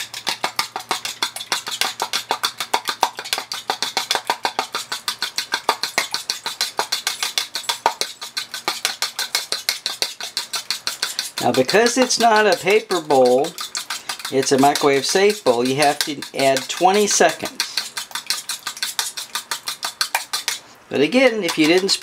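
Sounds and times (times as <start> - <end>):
fork beating egg in bowl: 0.0 - 22.0.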